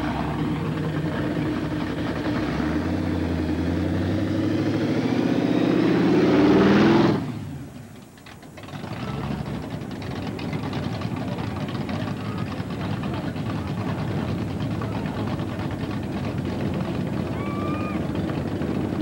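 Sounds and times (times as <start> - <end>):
muscle car engines running: 0.0 - 19.0.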